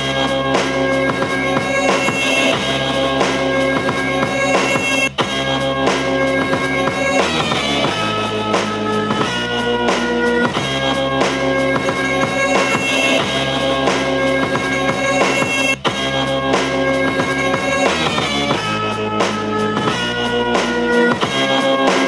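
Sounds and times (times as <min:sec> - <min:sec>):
music with drum beat from speaker: 0:00.0 - 0:22.0.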